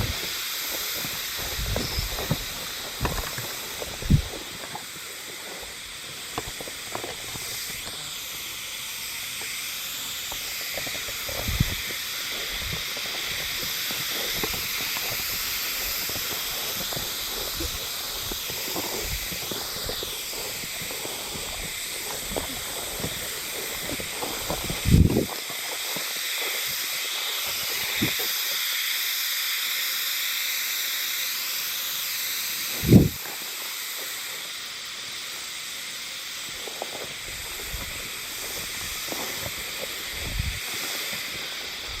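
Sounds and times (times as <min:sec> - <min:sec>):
cicadas buzzing: 0:00.0 - 0:42.0.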